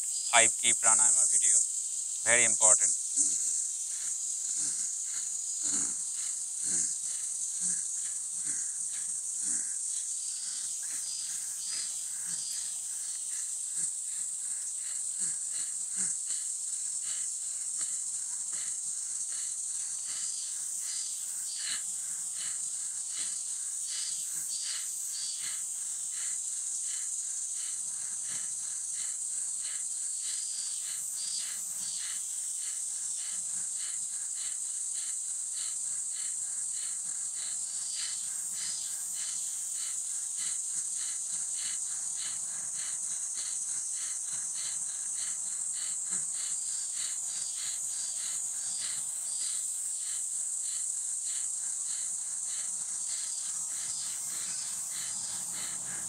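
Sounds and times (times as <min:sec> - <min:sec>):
insects droning with pulsing: 0:00.0 - 0:56.0.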